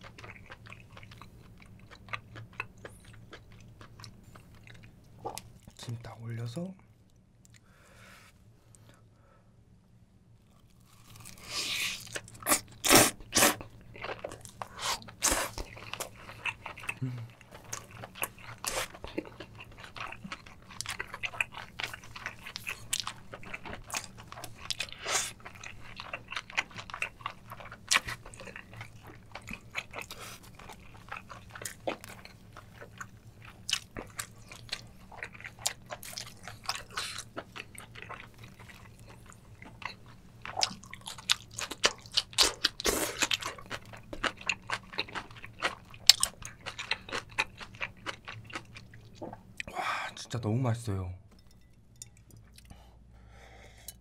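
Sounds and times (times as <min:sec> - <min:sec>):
wet chewing and crunching: 0:00.0 - 0:05.8, 0:10.4 - 0:49.7
faint low hum: 0:00.0 - 0:54.0.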